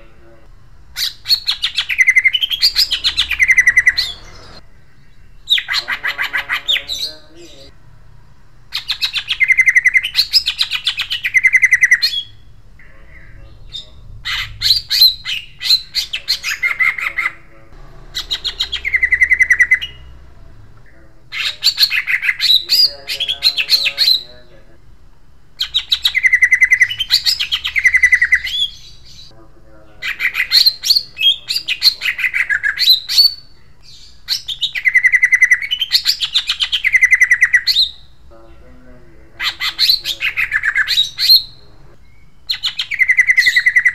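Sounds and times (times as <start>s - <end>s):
bird singing rattling song: 0.0s - 7.8s, 8.6s - 24.5s, 25.6s - 29.3s, 30.0s - 38.3s, 39.4s - 43.9s.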